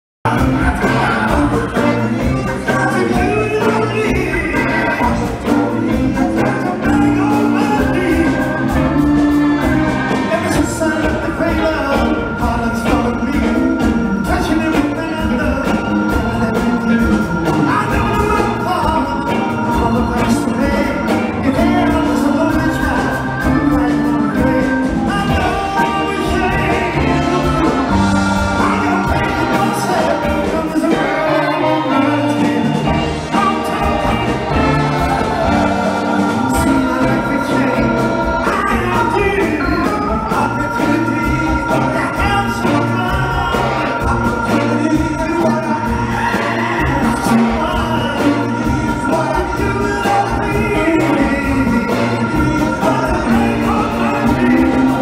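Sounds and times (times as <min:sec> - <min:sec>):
drums: 0:00.2 - 0:55.0
organ: 0:00.2 - 0:55.0
electric guitars: 0:00.3 - 0:55.0
man singing lead vocals: 0:00.3 - 0:55.0
saxophone horn section: 0:00.3 - 0:55.0.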